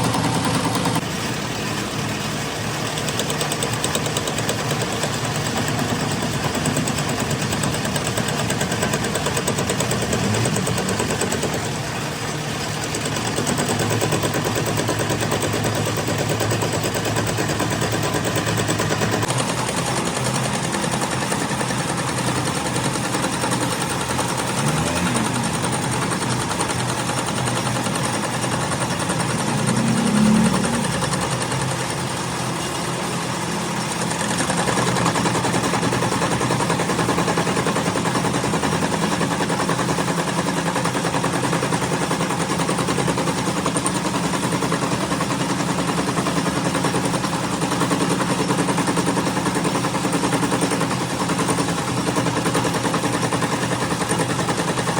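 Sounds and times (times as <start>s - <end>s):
rapid mechanical clatter: 0.0s - 54.9s.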